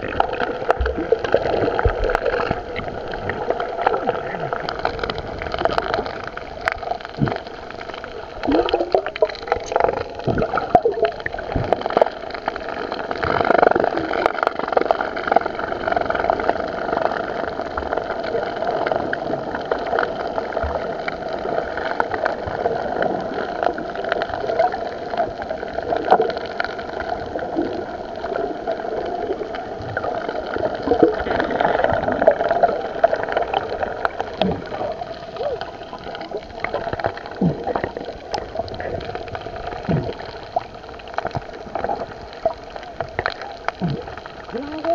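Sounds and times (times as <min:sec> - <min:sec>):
underwater gurgling and sloshing: 0:00.0 - 0:44.9.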